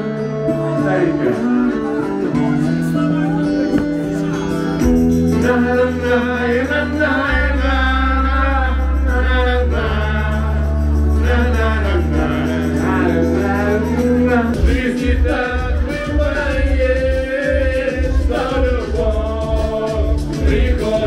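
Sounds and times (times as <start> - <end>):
backing track with bass notes: 0.0 - 21.0
man singing karaoke: 0.0 - 21.0.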